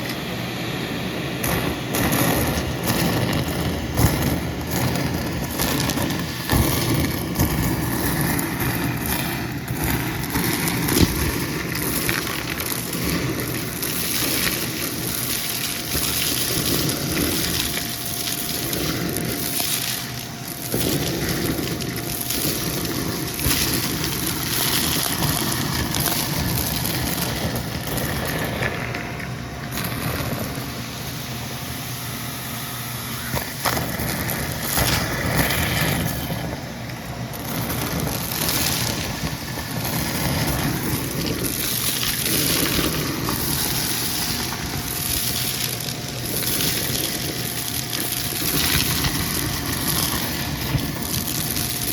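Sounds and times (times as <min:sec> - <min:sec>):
debris crunching in vacuum: 0:00.0 - 0:51.9
vacuum cleaner running: 0:00.0 - 0:51.9.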